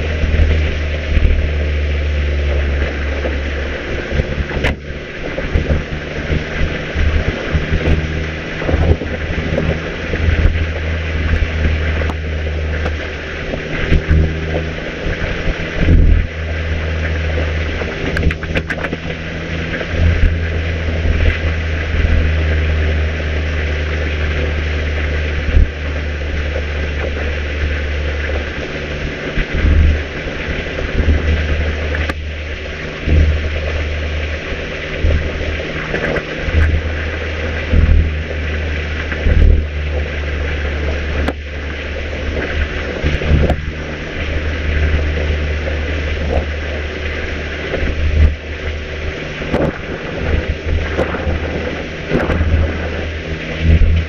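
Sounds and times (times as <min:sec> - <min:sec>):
car engine cruising: 0:00.0 - 0:54.0
road and wind noise: 0:00.0 - 0:54.0.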